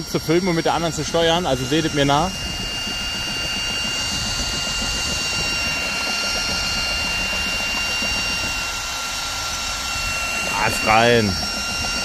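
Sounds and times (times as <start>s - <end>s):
drill motor whine: 0.0s - 12.0s
propeller churning water: 0.0s - 12.0s.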